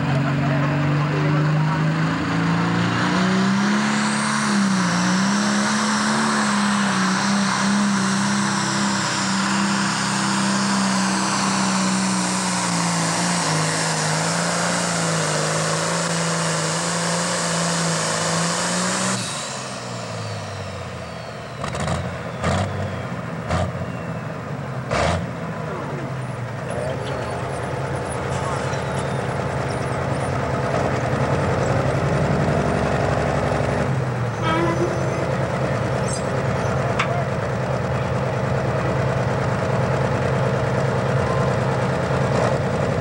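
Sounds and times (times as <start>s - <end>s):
diesel engine at full power: 0.0s - 43.0s.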